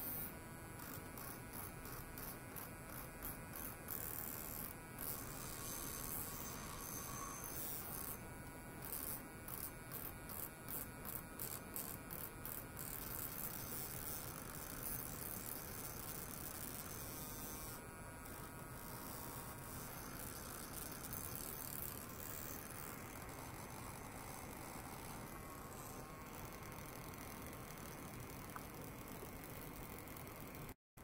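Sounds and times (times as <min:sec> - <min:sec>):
electric toothbrush buzzing on metal: 0:00.0 - 0:30.8.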